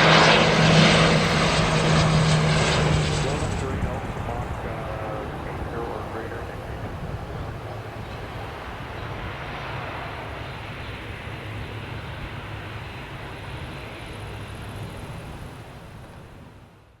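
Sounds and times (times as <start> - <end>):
turboprop engines at high power: 0.0 - 16.8.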